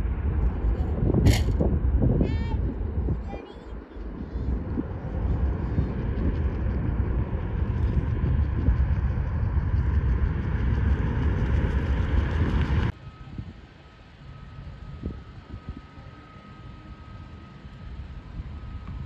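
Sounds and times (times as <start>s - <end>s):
jet airliner engine rumble: 0.0s - 19.0s.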